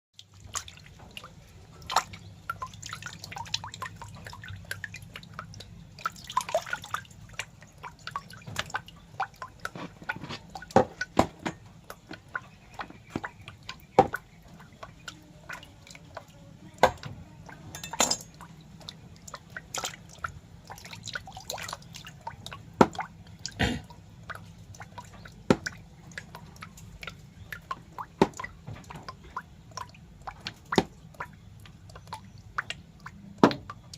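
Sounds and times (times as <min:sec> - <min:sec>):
wet clicks and crackles: 0:00.2 - 0:23.6, 0:24.2 - 0:33.9
low steady hum: 0:00.2 - 0:33.9.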